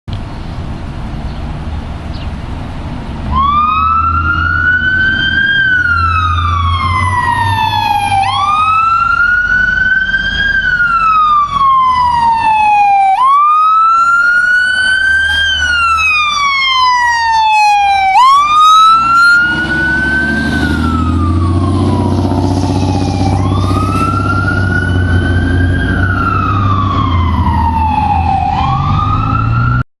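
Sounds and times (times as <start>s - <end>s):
low engine rumble: 0.1s - 28.7s
fire engine siren wailing: 3.3s - 29.9s.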